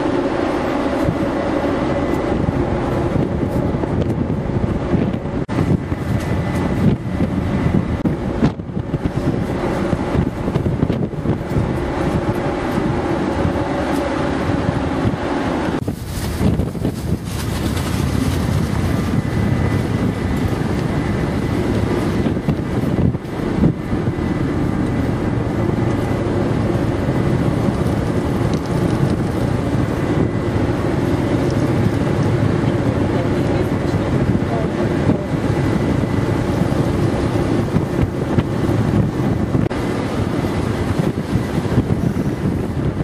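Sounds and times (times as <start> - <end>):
ferry engine drone: 0.0 - 43.0
wind buffeting microphone: 0.0 - 43.0.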